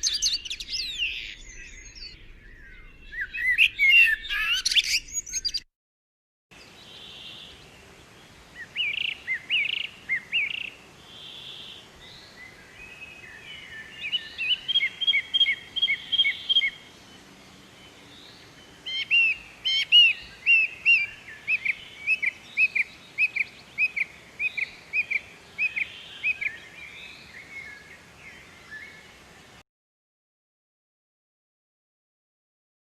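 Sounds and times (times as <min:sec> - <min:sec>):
small birds chirping: 0:00.0 - 0:05.7, 0:06.6 - 0:29.6.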